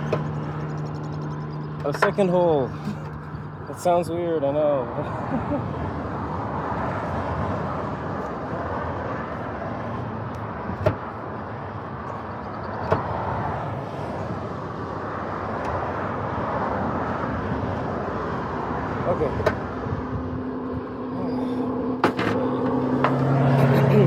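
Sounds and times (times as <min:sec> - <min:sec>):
passing road traffic: 0:00.0 - 0:24.0.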